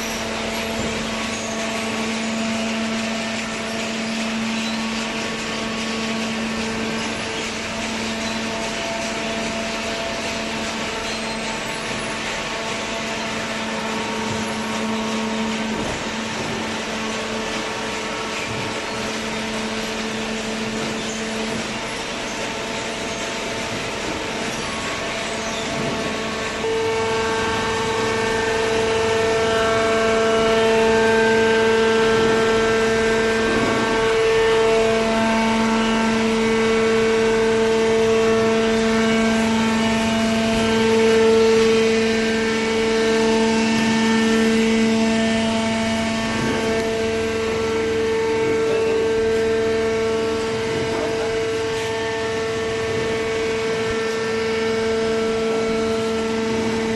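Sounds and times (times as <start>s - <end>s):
machine hum with whine: 0.0s - 56.9s.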